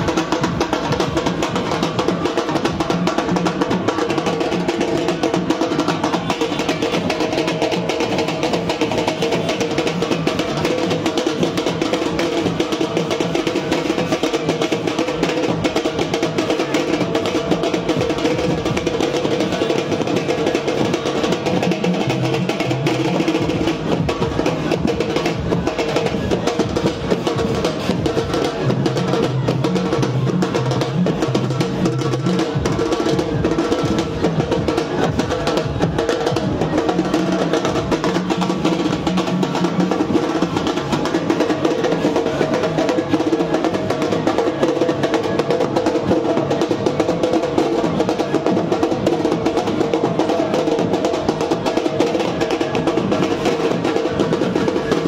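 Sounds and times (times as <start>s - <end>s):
fast continuous drumming: 0.0s - 55.0s.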